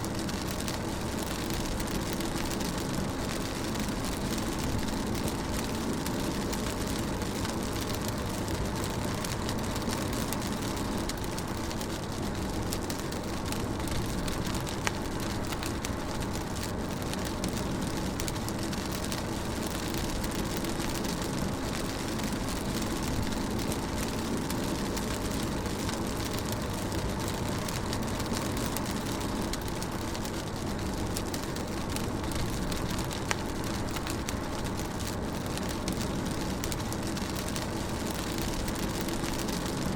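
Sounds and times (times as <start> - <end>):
rain on a moving car: 0.0 - 39.9.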